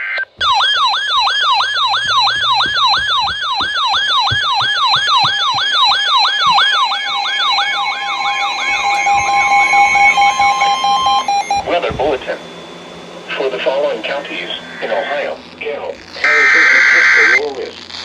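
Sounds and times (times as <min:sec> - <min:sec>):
electronic yelp siren: 0:00.0 - 0:17.4
two-tone alert signal: 0:00.4 - 0:15.3.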